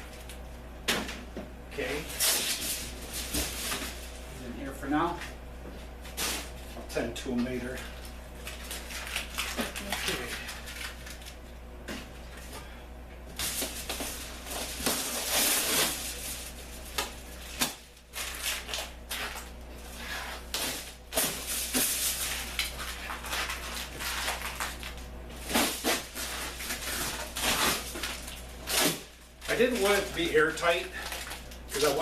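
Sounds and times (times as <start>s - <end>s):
steady low hum: 0.0s - 32.0s
materials rustling and crinkling: 1.8s - 5.2s, 5.8s - 12.5s, 13.3s - 32.0s.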